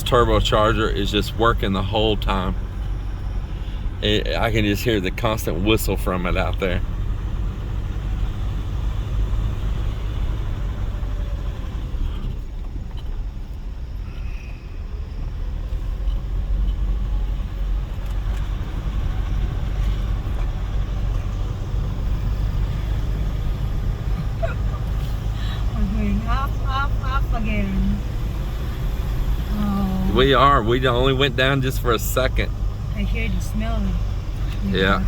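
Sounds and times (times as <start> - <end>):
truck engine working under load: 0.0 - 35.0
tyre and road noise: 0.0 - 35.0.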